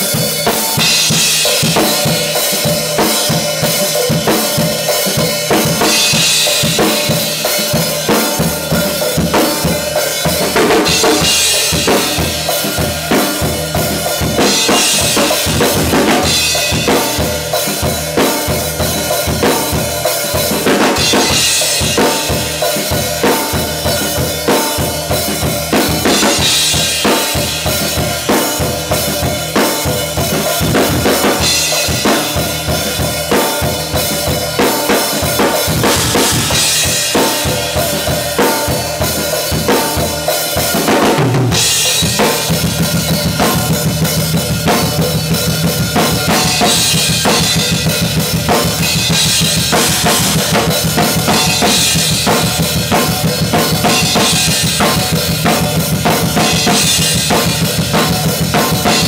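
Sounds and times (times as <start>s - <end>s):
drum kit groove: 0.0s - 59.0s.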